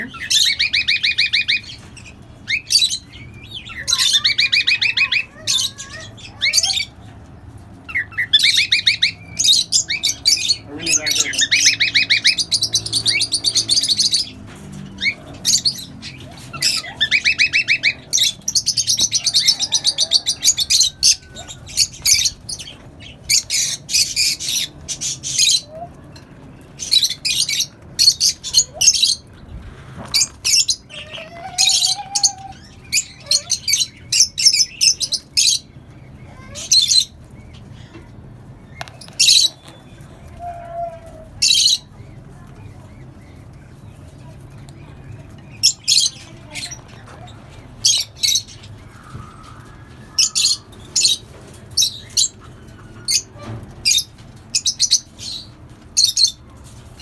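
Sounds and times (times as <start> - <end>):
parrots chattering and squawking: 0.0 - 57.0.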